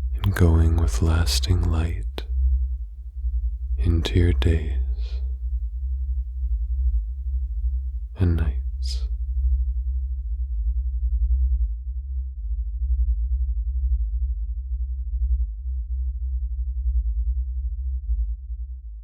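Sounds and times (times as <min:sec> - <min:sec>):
low pulsing sine tones: 0:00.0 - 0:18.7.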